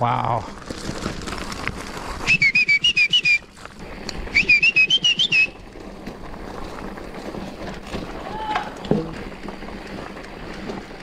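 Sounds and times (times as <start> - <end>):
bike rattling on stones: 0.0 - 11.0.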